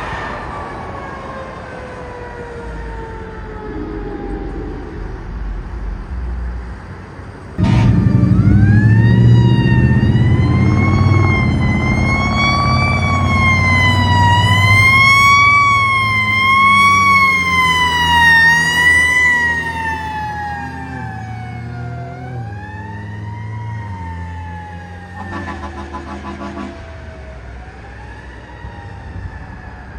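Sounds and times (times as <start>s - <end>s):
fire truck siren wailing: 0.0s - 6.8s, 7.6s - 29.9s
truck engine rumble: 0.0s - 29.9s.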